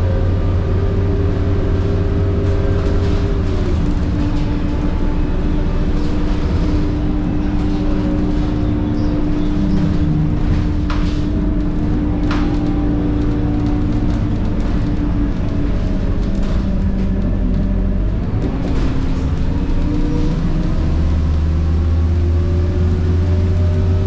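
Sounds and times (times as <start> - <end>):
bus diesel engine drone: 0.0 - 24.0.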